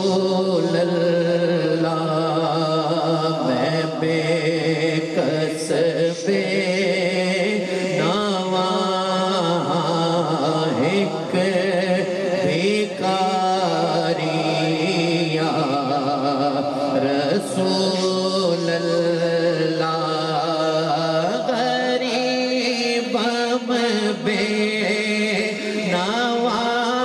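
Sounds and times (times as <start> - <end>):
man singing into a microphone: 0.0 - 27.0
steady held drone: 0.0 - 27.0.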